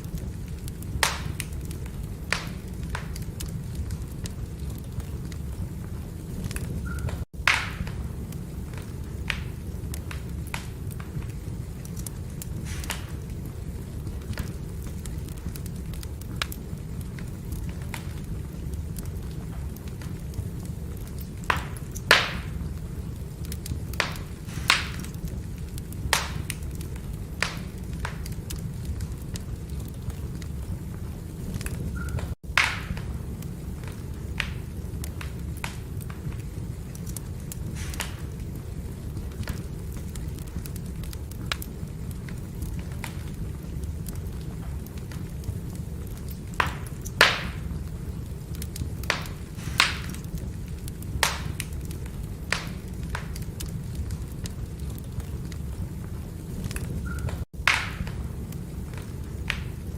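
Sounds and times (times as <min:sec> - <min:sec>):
firewood crackling pops: 0:00.0 - 0:59.9
low rumble of fire: 0:00.0 - 0:59.9.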